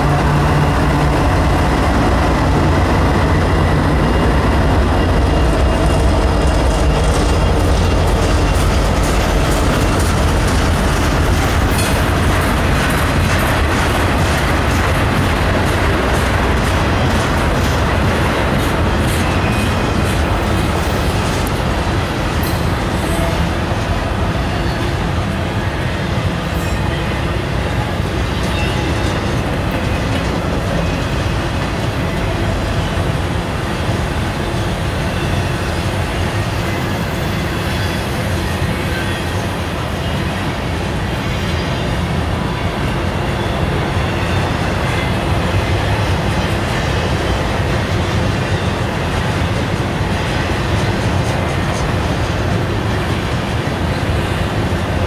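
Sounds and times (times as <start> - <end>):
freight train cars rolling: 0.0 - 55.0.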